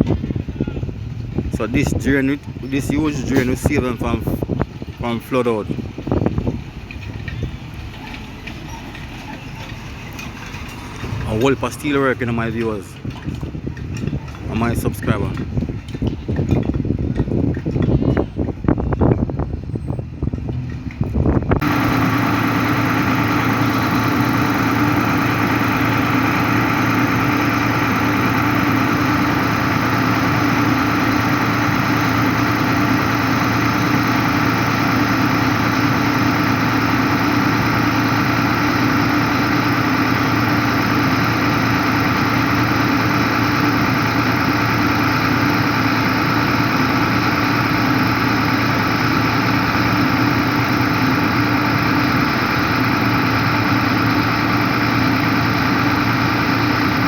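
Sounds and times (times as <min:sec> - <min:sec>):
machine engine idling: 0:05.8 - 0:16.3, 0:21.6 - 0:57.0.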